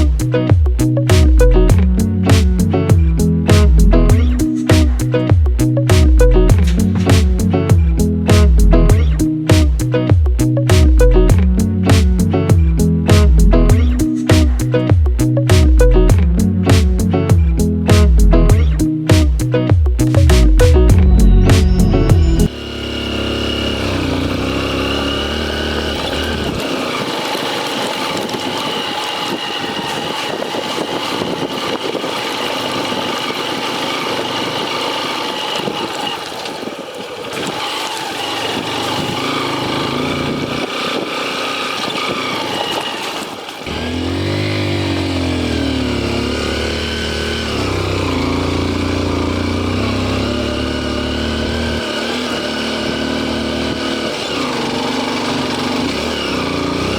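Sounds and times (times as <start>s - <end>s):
motorcycle engine revving: 0.0s - 56.9s
wind and road noise: 0.0s - 56.9s.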